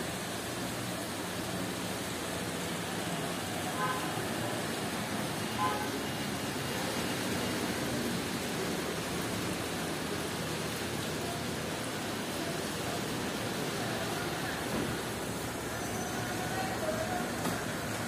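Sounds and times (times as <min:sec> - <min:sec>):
workshop background hiss: 0:00.0 - 0:18.0.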